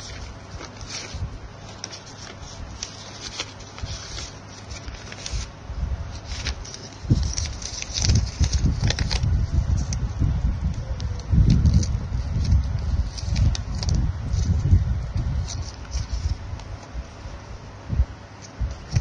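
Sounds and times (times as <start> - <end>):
paper rustling and crinkling: 0.0 - 17.4, 18.4 - 19.0.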